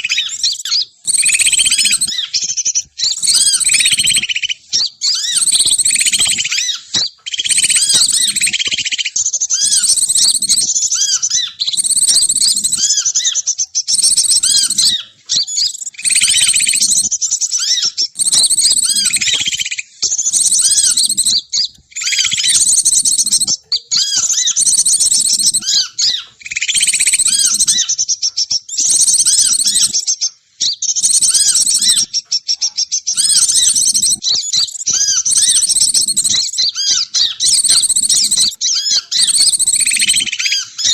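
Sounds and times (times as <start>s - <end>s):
high-pitched songbird twittering: 0.0s - 40.9s.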